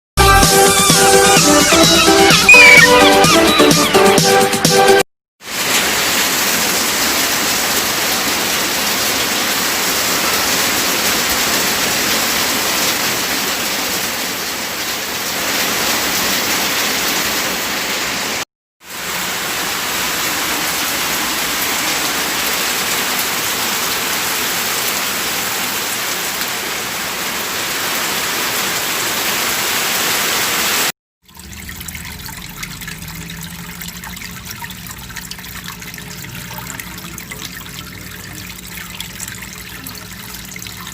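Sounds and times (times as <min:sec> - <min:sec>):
rushing water: 0:00.4 - 0:40.9
trickle of running water: 0:05.4 - 0:29.9, 0:31.2 - 0:40.9.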